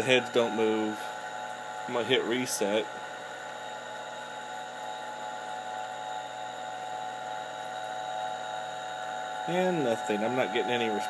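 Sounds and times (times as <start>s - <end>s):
computer fan and drive hum: 0.0s - 11.0s.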